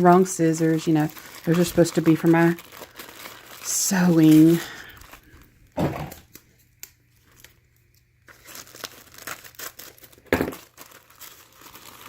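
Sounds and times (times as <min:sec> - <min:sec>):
wrapping crinkling and tearing: 0:00.0 - 0:12.0.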